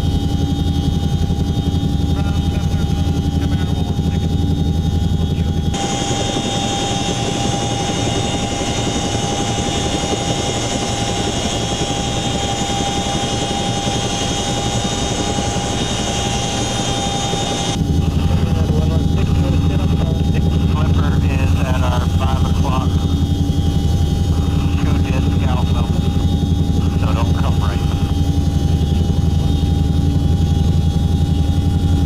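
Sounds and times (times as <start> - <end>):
helicopter rotor drone: 0.0 - 32.0
high whine: 0.0 - 32.0.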